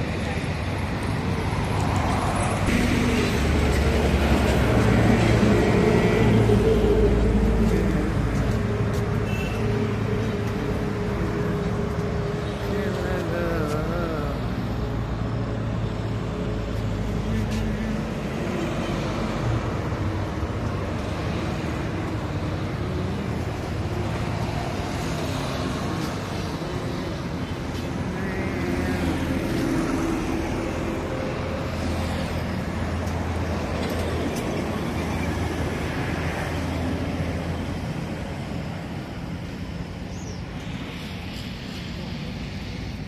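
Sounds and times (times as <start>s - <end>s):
cars passing: 0.0s - 43.0s
motorbikes passing: 0.0s - 43.0s.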